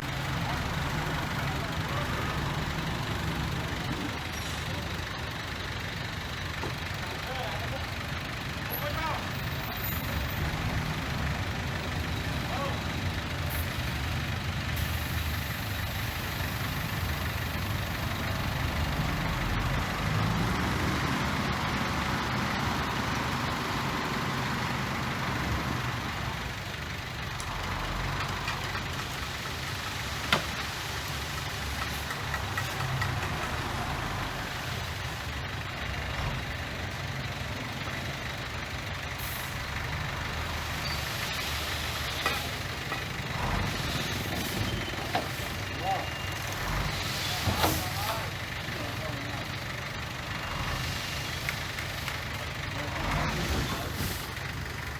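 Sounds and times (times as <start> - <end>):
diesel engine rumbling: 0.0 - 54.9.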